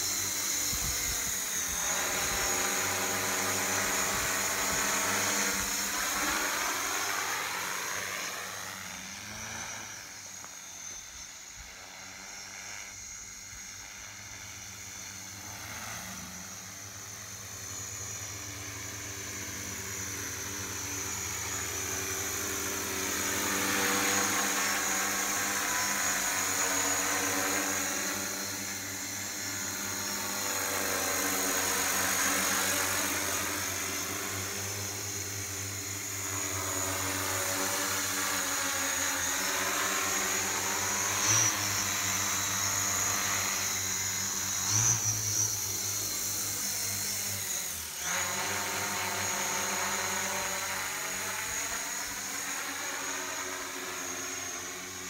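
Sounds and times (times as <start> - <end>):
drone motors humming and whining: 0.0 - 55.0.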